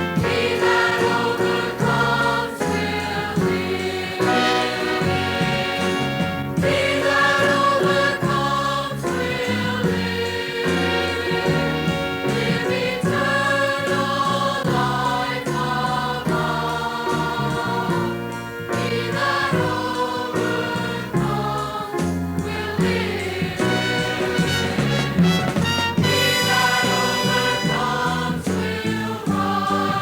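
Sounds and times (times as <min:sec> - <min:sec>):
gospel choir singing: 0:00.0 - 0:30.0
instrumental accompaniment: 0:00.0 - 0:30.0.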